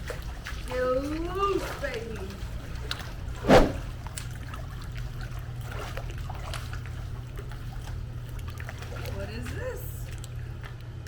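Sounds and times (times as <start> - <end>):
pool water splashing: 0.0 - 10.3.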